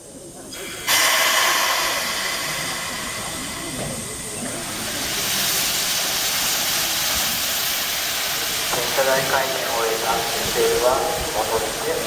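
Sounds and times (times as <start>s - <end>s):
steam hissing: 0.2s - 12.0s.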